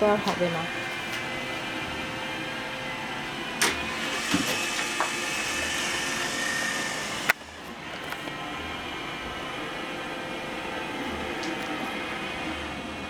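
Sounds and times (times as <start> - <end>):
robot vacuum motor whirring: 0.0 - 13.0.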